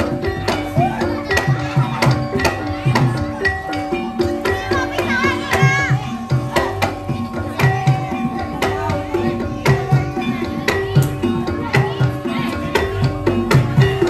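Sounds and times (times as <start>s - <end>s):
wavering melody line: 0.0s - 14.0s.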